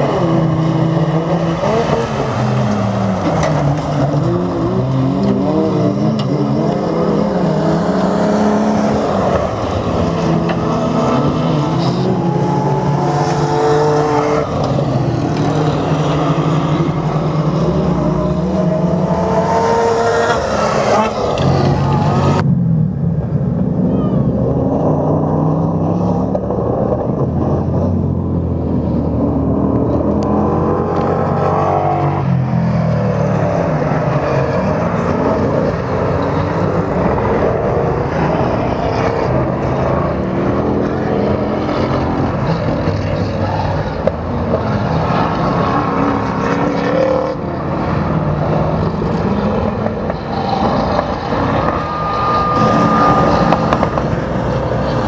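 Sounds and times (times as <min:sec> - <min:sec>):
buggy engines revving: 0:00.0 - 0:55.0.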